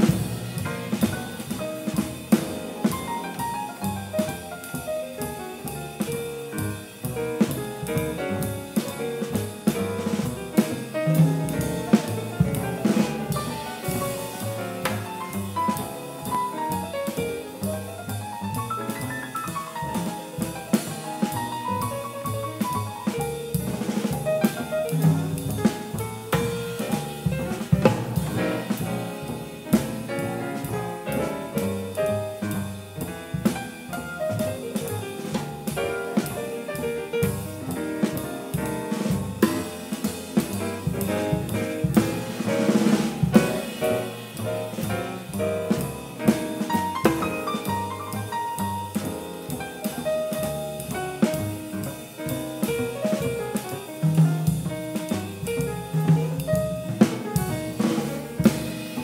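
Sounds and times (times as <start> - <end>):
bass: 0.0 - 59.0
drum kit with cymbals: 0.0 - 59.0
grand piano playing: 0.0 - 59.0
jazz combo playing: 0.0 - 59.0.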